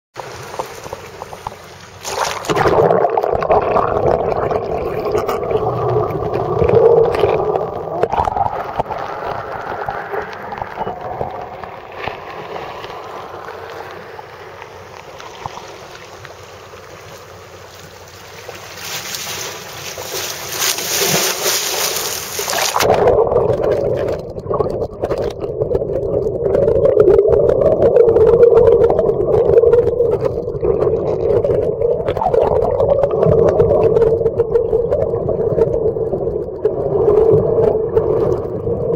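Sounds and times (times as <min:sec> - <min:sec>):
boat engine droning underwater: 0:00.2 - 0:38.9
water rushing: 0:00.2 - 0:38.9.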